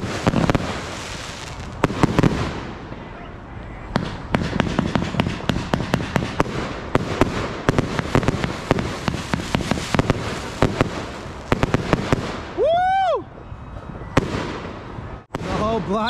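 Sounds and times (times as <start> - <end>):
fireworks banging: 0.0 - 3.3, 3.9 - 12.7, 14.2 - 16.0
fireworks crackling: 0.0 - 13.2, 14.2 - 16.0.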